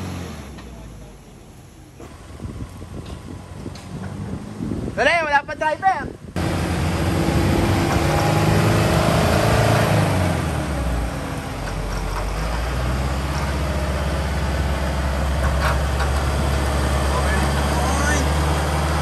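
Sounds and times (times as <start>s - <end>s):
diesel engine running under load: 0.0s - 5.0s, 6.2s - 19.0s.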